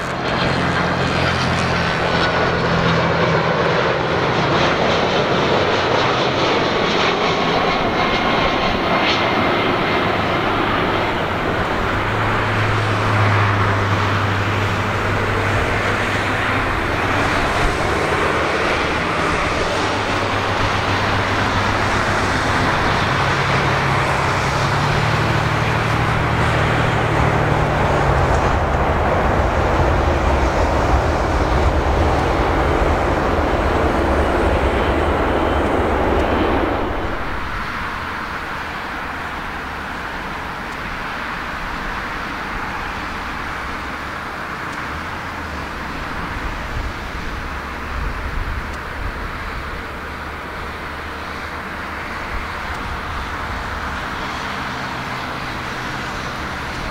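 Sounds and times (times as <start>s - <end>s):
jet airliner engines roaring: 0.0s - 56.9s.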